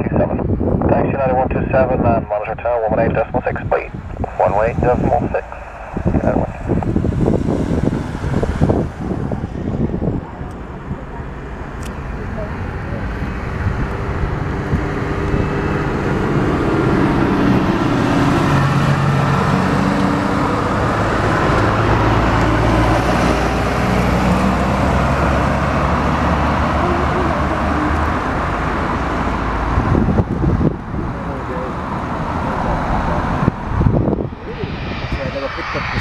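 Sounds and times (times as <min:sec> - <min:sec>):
jet engine hum: 0:00.0 - 0:36.0.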